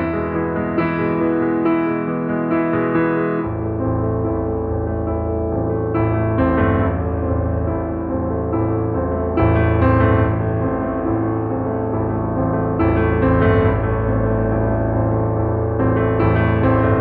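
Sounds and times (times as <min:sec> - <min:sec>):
piano chords with bass: 0:00.0 - 0:17.0.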